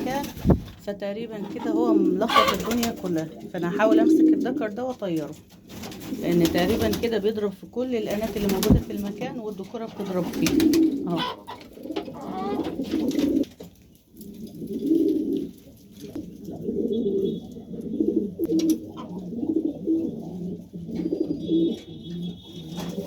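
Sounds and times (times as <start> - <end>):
pigeons cooing: 1.3 - 7.4, 8.1 - 23.0.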